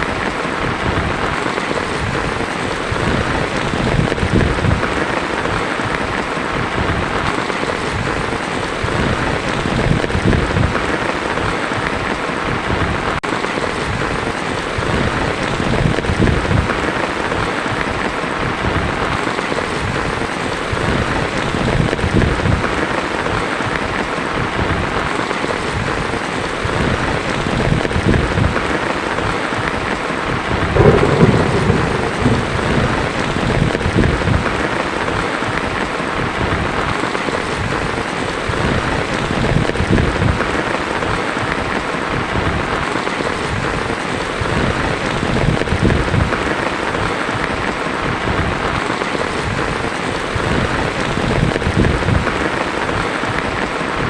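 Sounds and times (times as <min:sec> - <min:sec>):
thunder rumbling: 0:00.0 - 0:22.8, 0:26.6 - 0:47.3
heavy rain on a tin roof: 0:00.0 - 0:54.0.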